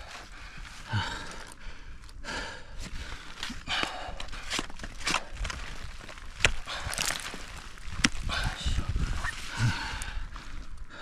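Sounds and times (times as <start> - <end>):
person breathing hard: 0.0 - 5.6, 6.5 - 7.3, 8.2 - 11.0
climbing gear crunching on ice: 0.0 - 11.0.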